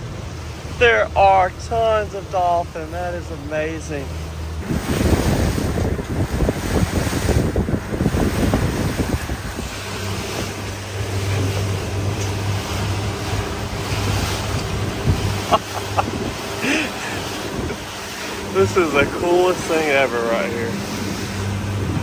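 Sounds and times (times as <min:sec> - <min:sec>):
boat engine drone: 0:00.0 - 0:22.0
water rushing along hull: 0:00.0 - 0:22.0
wind buffeting microphone: 0:04.2 - 0:22.0.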